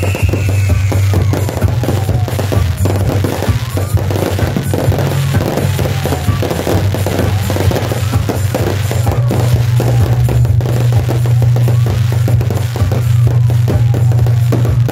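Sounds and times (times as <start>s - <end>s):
fireworks bursting and crackling: 0.0s - 14.9s
loud bass-heavy music: 0.0s - 14.9s.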